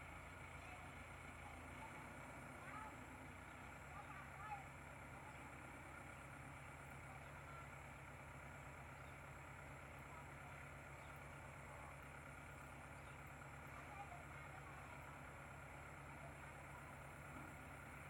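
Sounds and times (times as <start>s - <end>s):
faint engine hum: 0.0s - 18.0s.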